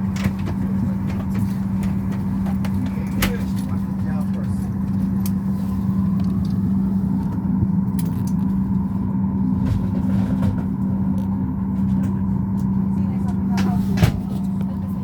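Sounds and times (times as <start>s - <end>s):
aircraft cabin hum: 0.0s - 15.0s
mid-pitched whine: 0.0s - 15.0s.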